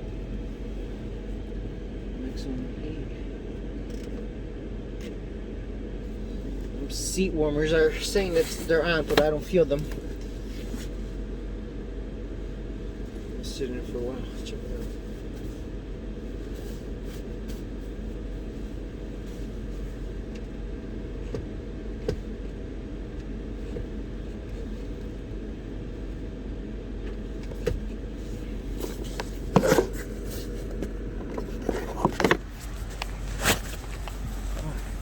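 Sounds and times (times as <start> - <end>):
idling car cabin hum: 0.0 - 35.0.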